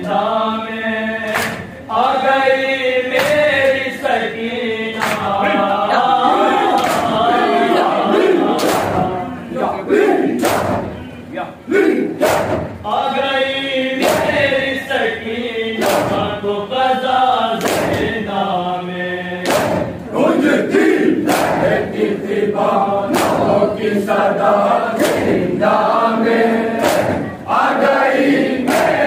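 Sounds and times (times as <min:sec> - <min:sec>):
men chanting a lament: 0:00.0 - 0:29.0
group slapping chests in unison: 0:01.2 - 0:11.1, 0:11.7 - 0:12.9, 0:13.9 - 0:16.6, 0:17.5 - 0:18.4, 0:19.4 - 0:29.0.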